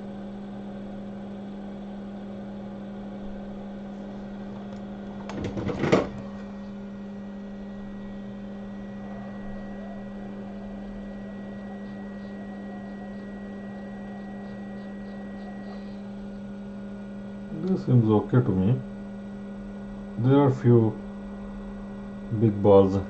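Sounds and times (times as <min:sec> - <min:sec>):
electrical equipment hum: 0:00.0 - 0:23.0.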